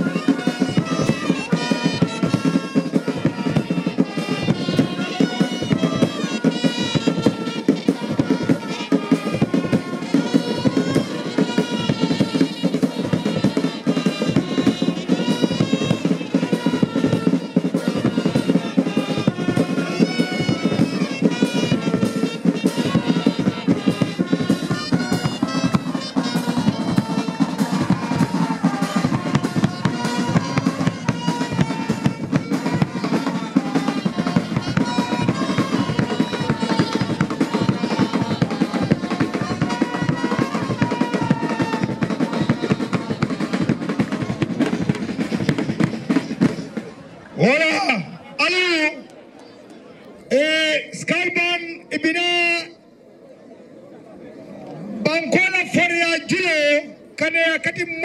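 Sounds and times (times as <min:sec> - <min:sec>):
fast dense drumming: 0:00.0 - 0:46.8.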